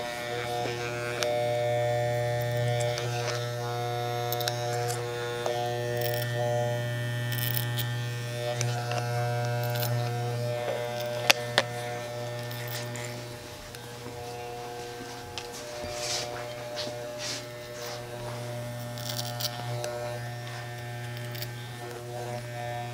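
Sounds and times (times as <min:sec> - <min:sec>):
electric hair clipper buzzing: 0:00.0 - 0:22.9.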